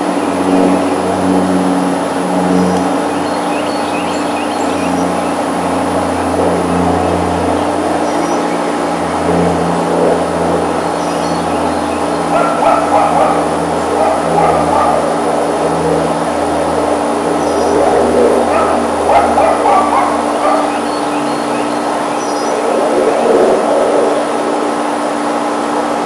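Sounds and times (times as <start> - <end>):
low engine-like drone: 0.0 - 26.0.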